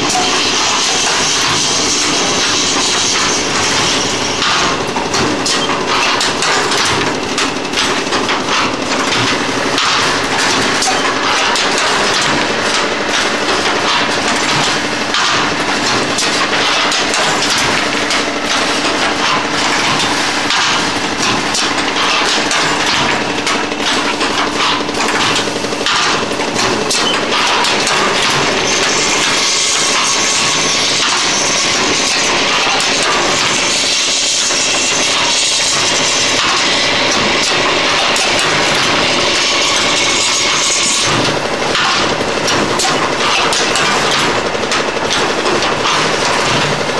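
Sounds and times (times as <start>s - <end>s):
conveyor rattling and clacking: 0.0s - 46.9s
machine humming: 0.0s - 46.9s.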